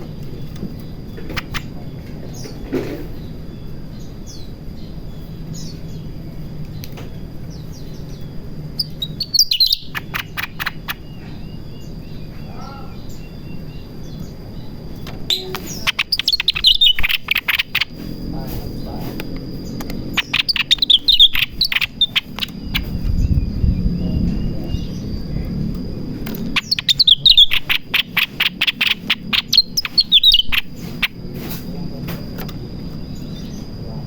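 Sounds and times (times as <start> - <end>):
bulbul singing: 0.0 - 34.0.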